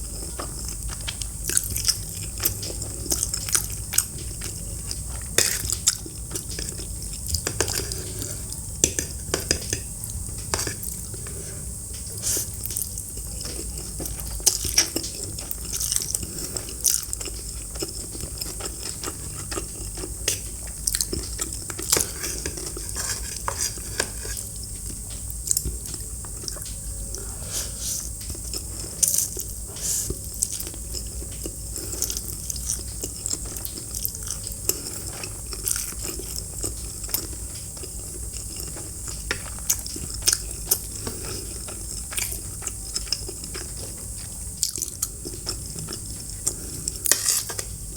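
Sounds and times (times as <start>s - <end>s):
crunchy chewing: 0.0s - 47.9s.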